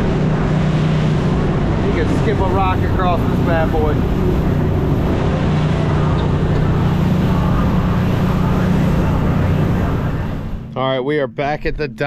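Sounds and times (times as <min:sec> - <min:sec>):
wind and water rushing: 0:00.0 - 0:10.8
boat engines droning: 0:00.0 - 0:12.0.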